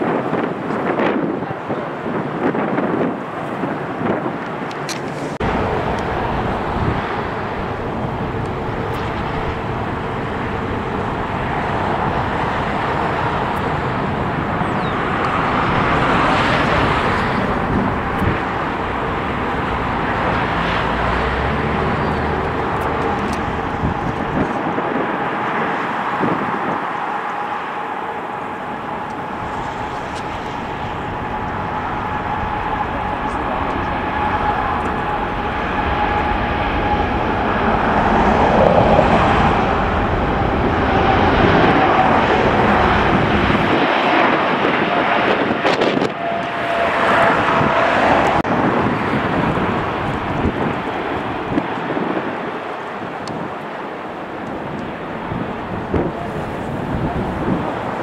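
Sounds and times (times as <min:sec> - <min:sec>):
jet airliner engine noise: 0:00.0 - 0:58.0
steady engine whine: 0:00.0 - 0:58.0
wind buffeting microphone: 0:00.0 - 0:58.0.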